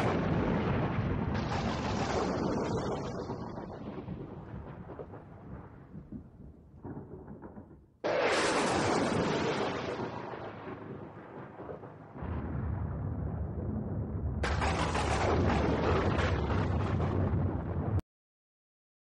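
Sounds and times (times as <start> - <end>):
deep booming rumbles: 0.0 - 18.0.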